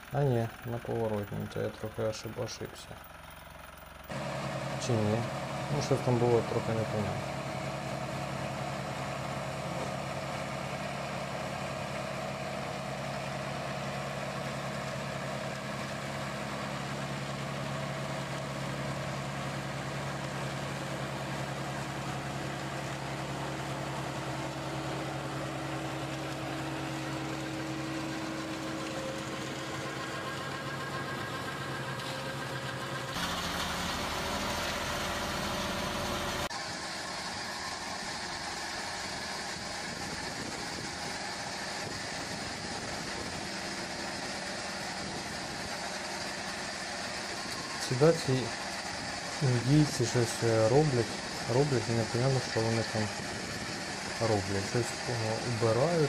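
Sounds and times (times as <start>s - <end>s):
noisier engine: 0.0s - 56.0s
tractor engine running: 0.0s - 56.0s
mower cutting tall grass: 3.2s - 56.0s.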